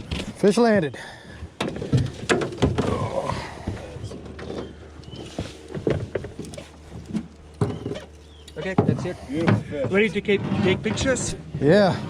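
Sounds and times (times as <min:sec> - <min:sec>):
knocks and clunks in a boat: 0:00.0 - 0:12.0.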